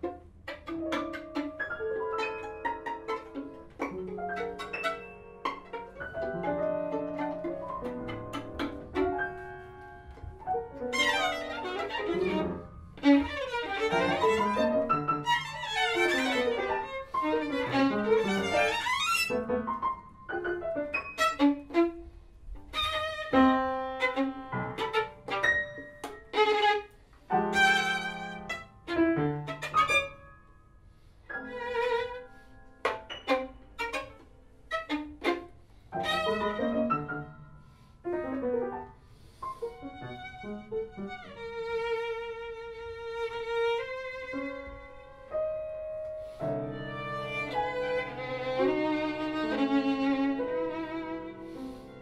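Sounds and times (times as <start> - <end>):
violin playing sliding notes: 0.0 - 19.5, 20.8 - 30.4, 31.3 - 37.2, 39.5 - 45.4, 46.1 - 52.0.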